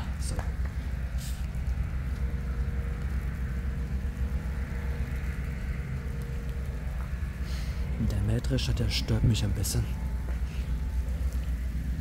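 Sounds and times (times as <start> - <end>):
combine harvester rumble: 0.0 - 12.0
faint even hum: 0.0 - 12.0.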